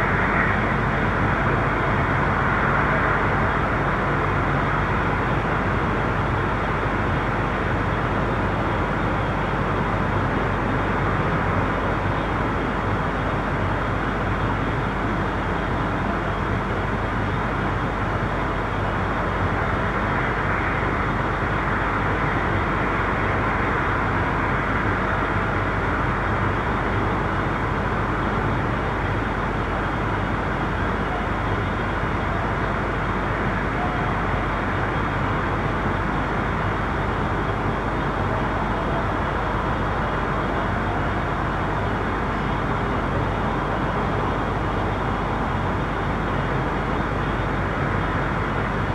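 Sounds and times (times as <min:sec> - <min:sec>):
distant traffic rumble: 0:00.0 - 0:48.9.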